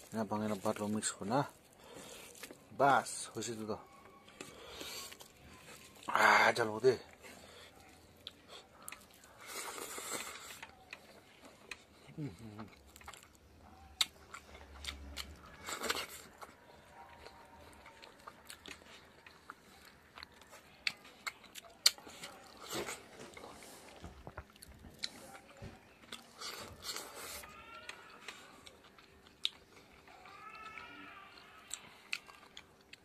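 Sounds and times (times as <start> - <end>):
man chewing with wet smacks: 1.6 - 2.7, 4.2 - 33.0.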